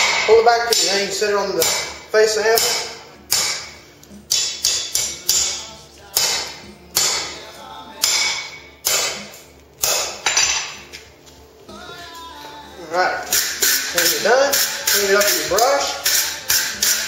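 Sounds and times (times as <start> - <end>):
hammer striking steel on anvil: 0.0 - 7.4, 8.0 - 10.8, 13.2 - 17.0.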